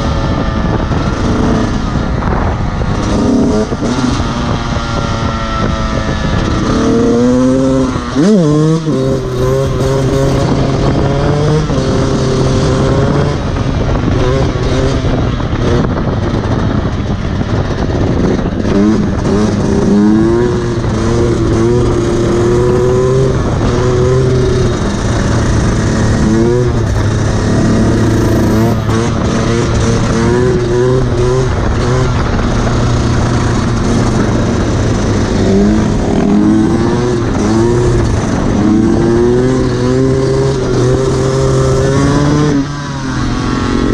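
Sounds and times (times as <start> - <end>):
two-stroke motorcycle engine revving: 0.0 - 43.9
wind: 0.0 - 43.9.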